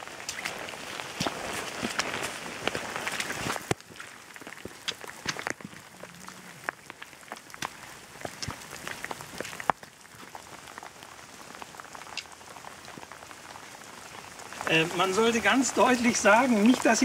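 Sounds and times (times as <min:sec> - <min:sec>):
raindrops tapping: 0:00.0 - 0:17.0
steady rain hiss: 0:00.0 - 0:17.0.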